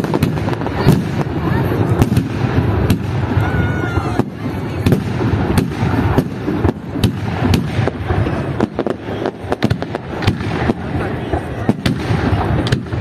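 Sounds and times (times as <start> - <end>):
firework cracks: 0.0 - 13.0
fireworks bursting with sharp bangs: 0.0 - 13.0.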